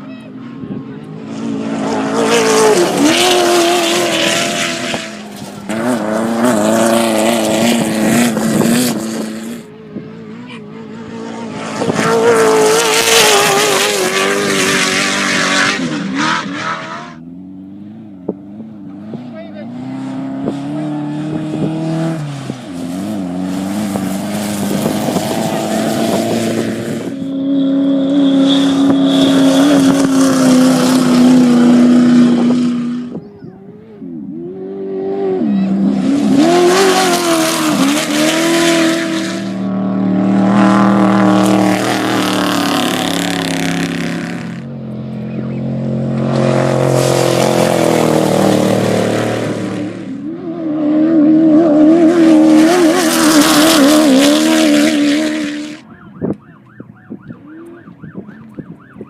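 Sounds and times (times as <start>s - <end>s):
off-road vehicles speeding past: 0.0s - 59.0s.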